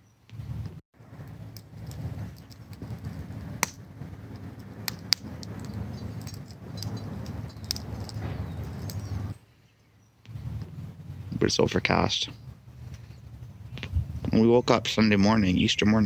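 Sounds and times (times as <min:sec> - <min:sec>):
fire crackling and popping: 0:00.3 - 0:09.4, 0:10.2 - 0:16.0
low rumble: 0:00.4 - 0:09.4, 0:10.3 - 0:15.4.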